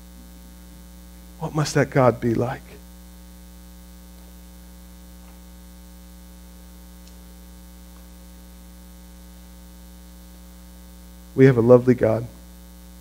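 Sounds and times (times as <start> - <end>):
buzzy electrical mains hum: 0.0 - 13.0.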